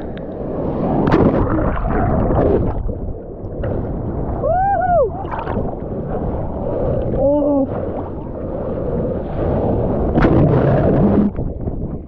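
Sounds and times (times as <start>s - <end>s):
water washing and sloshing: 0.0s - 12.0s
wave splashing over camera: 0.0s - 12.0s.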